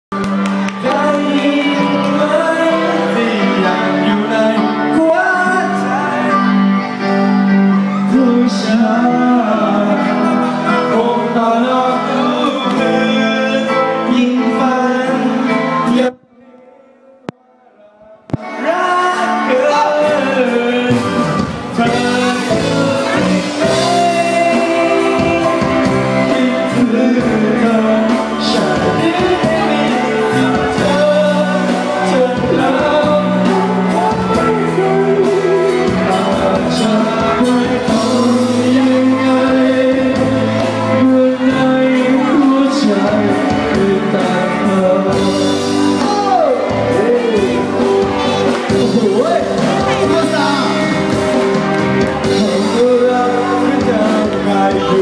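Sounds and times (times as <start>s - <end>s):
loud amplified backing music: 0.1s - 55.0s
man singing into a microphone: 0.1s - 55.0s.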